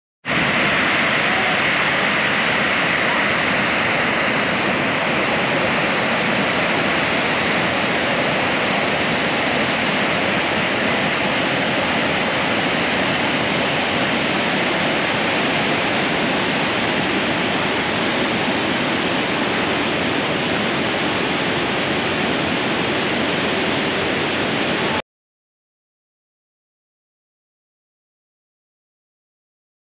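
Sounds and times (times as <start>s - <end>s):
waterfall rushing: 0.3s - 25.0s.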